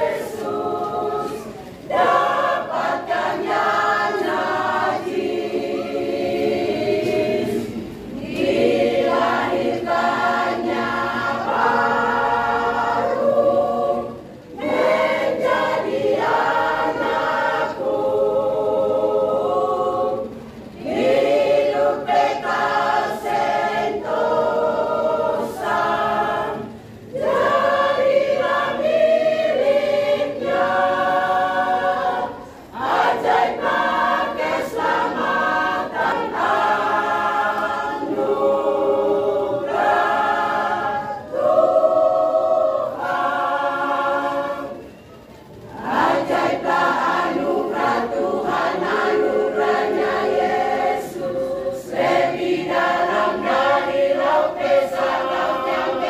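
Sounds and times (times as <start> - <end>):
church choir singing: 0.0 - 56.0.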